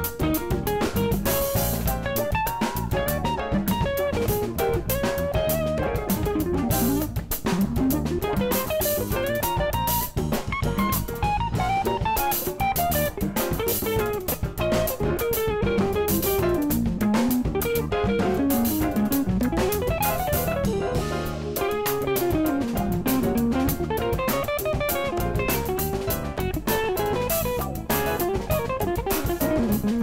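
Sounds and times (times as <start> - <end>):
congas: 0.0 - 30.0
drum kit with cymbals: 0.0 - 30.0
electric bass: 0.0 - 30.0
upright piano: 0.0 - 30.0.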